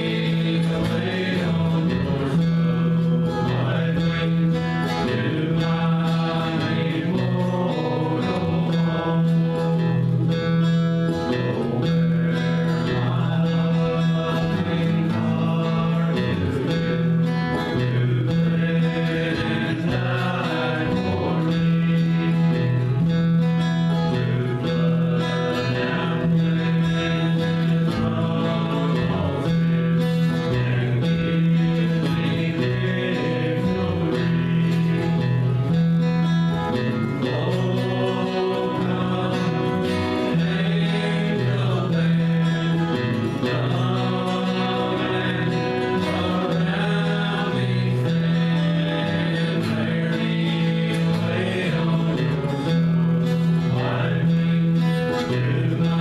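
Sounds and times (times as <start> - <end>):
acoustic guitar: 0.0 - 56.0
bass line: 0.0 - 56.0
men's vocal group singing: 0.0 - 56.0.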